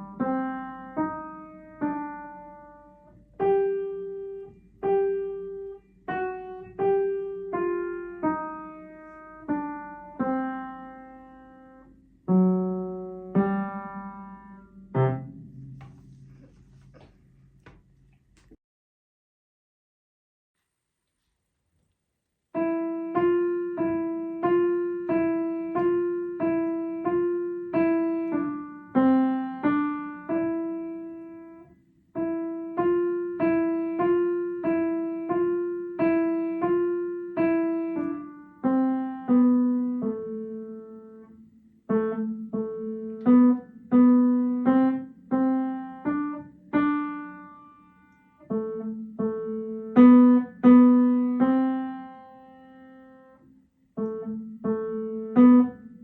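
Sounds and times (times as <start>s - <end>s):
slow piano melody: 0.0s - 18.5s, 22.6s - 56.0s.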